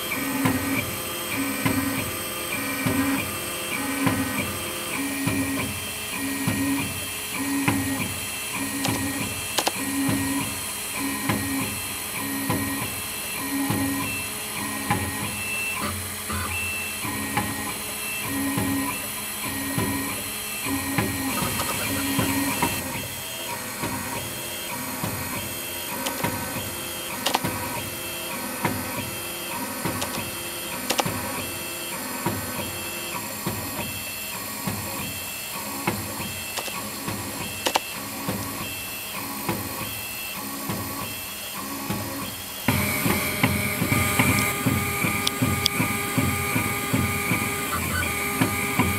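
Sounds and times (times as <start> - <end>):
engraving machine motors whining: 0.0 - 48.9.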